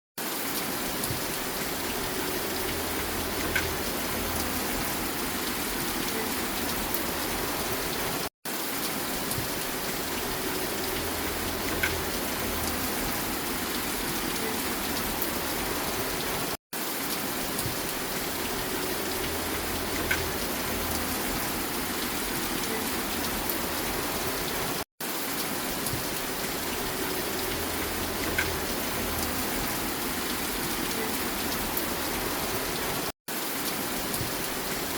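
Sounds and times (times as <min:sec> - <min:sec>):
steady rain: 0:00.2 - 0:34.9.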